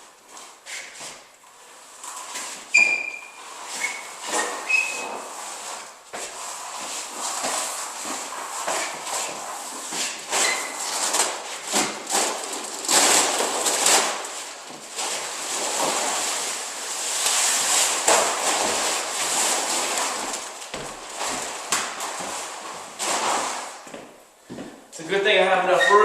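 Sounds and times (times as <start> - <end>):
vinyl sheet rustling on floor: 0.0 - 24.8.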